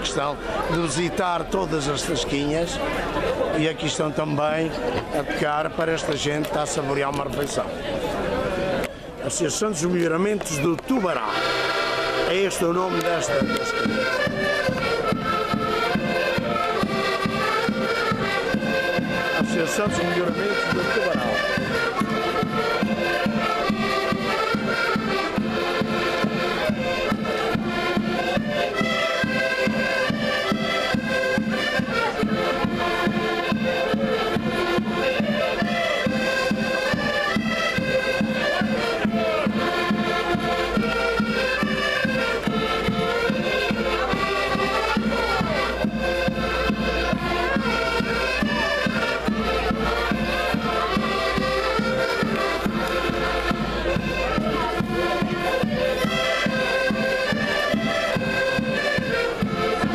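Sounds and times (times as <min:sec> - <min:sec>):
accordions playing a tune: 0:00.0 - 0:59.9.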